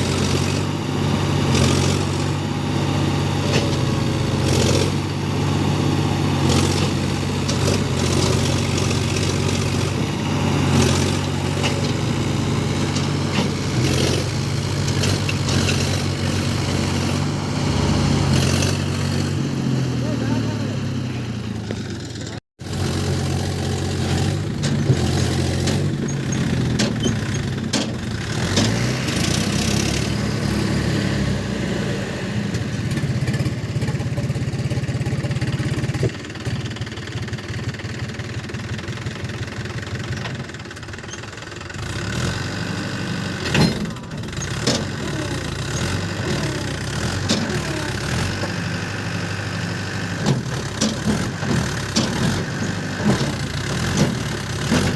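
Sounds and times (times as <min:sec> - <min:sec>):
diesel tractor engines running: 0:00.0 - 0:54.9.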